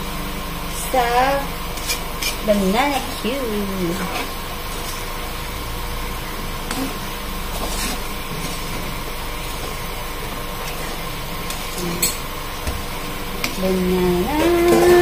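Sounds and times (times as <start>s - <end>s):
banana slices sizzling in oil: 0.0s - 15.0s.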